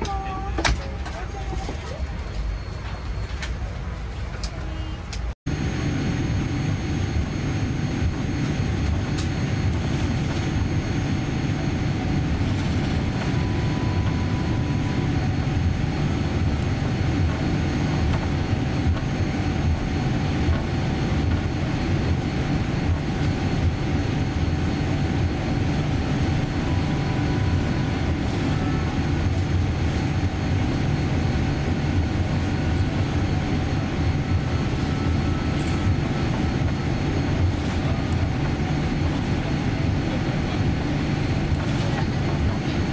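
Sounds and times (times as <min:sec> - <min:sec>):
aircraft cabin engine rumble: 0:00.0 - 0:04.8, 0:05.5 - 0:42.9.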